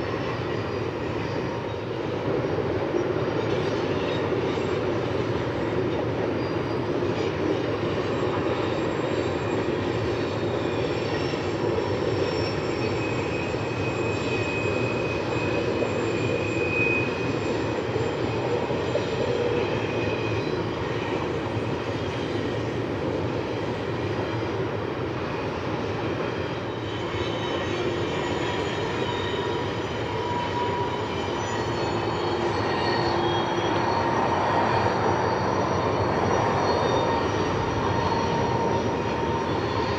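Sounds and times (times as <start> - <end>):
faint wheel squeals: 0.0 - 39.9
freight train rumbling: 0.0 - 39.9.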